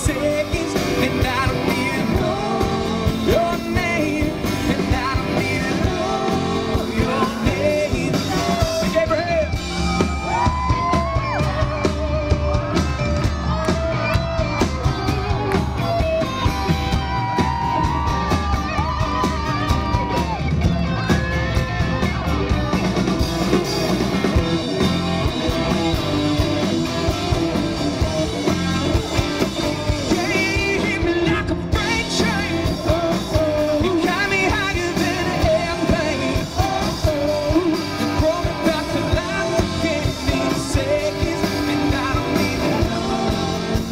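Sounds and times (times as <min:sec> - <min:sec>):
live rock band playing: 0:00.0 - 0:43.9
male lead singer: 0:00.0 - 0:43.9.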